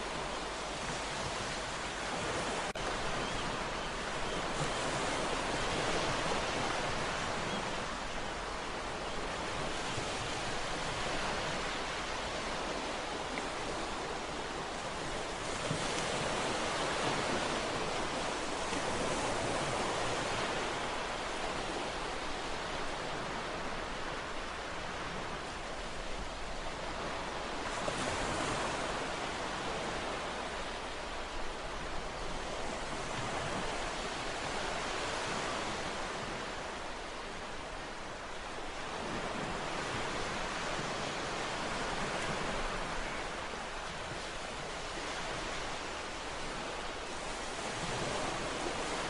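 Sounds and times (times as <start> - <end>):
ocean waves washing ashore: 0.0 - 49.0.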